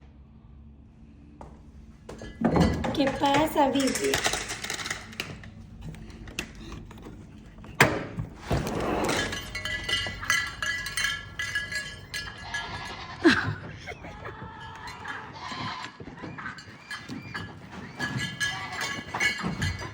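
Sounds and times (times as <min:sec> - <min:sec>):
knocks and clinks: 0:02.1 - 0:19.9.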